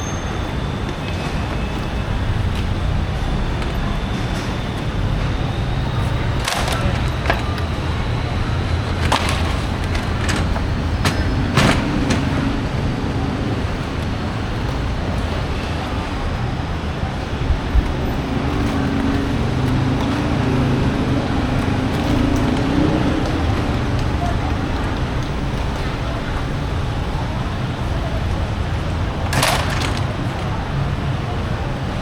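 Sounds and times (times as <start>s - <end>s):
market background: 0.0s - 32.0s
vehicle engine rumble: 0.0s - 32.0s.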